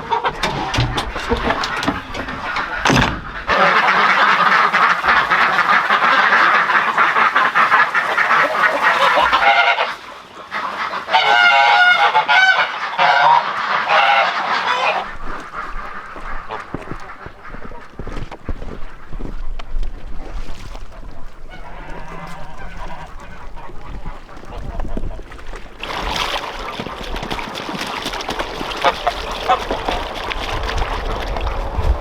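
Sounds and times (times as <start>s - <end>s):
geese honking: 0.0s - 19.3s, 21.0s - 31.5s.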